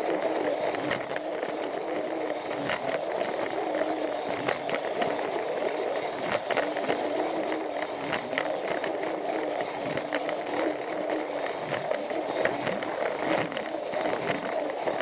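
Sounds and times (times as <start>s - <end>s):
toy train motor whirring: 0.0s - 15.0s
wheels clicking on plastic track: 0.0s - 15.0s.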